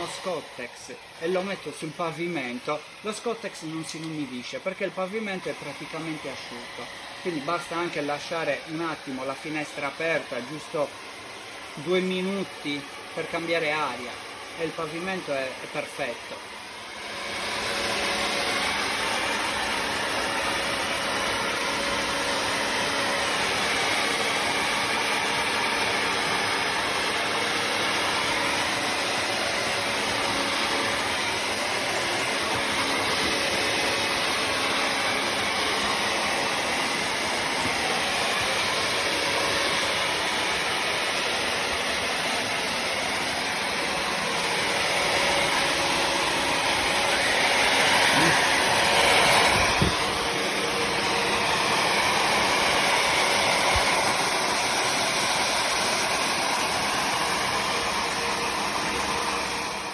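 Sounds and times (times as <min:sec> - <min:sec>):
floor cleaner running: 0:00.0 - 0:59.9.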